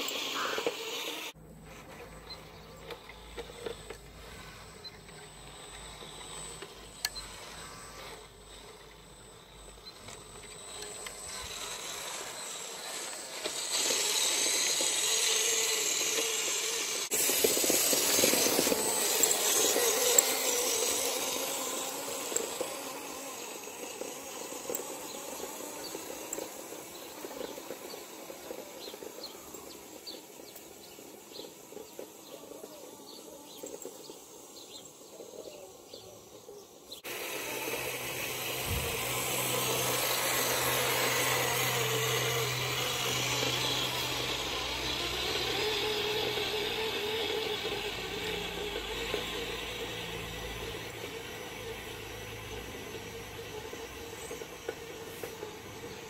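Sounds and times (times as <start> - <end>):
toy truck electric motor whining: 0.0 - 56.0.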